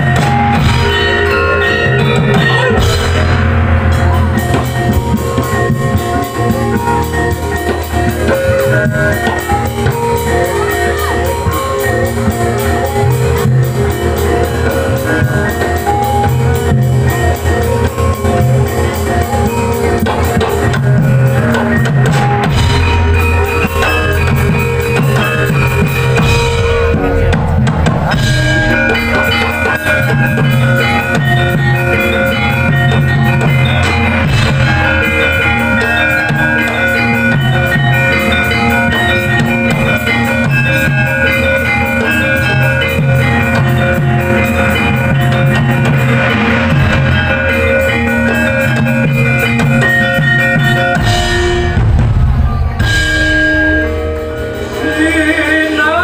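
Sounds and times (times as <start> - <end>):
hand drum rhythm: 0.0 - 56.0
metallophones struck with mallets: 0.0 - 56.0.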